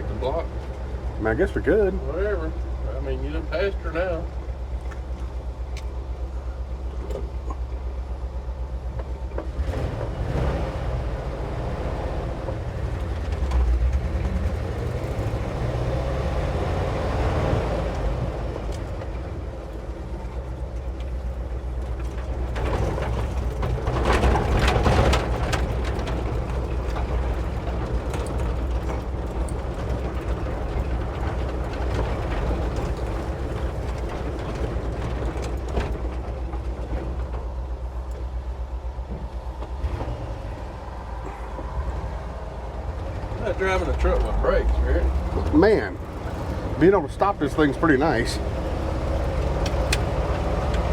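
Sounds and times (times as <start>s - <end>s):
truck engine rumble from inside cab: 0.0s - 50.9s.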